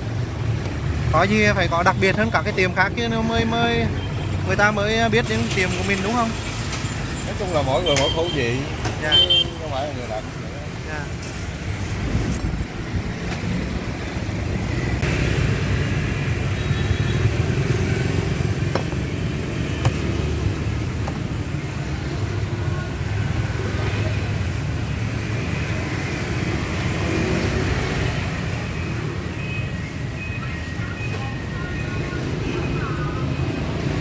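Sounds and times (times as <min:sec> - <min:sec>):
road traffic engine rumble: 0:00.0 - 0:34.0.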